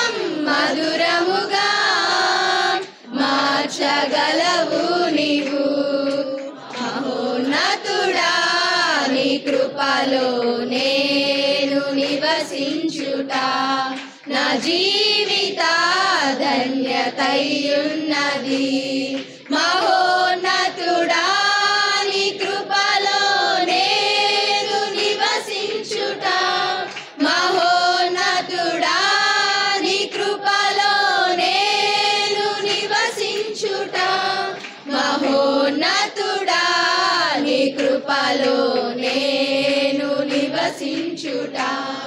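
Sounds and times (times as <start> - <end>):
female choir singing: 0.0 - 42.0.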